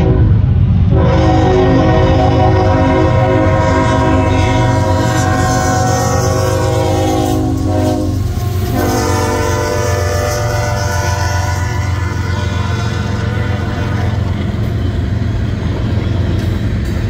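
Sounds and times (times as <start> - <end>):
locomotive air horn blasts: 0.0 - 14.6
train rumbling past: 0.0 - 17.0.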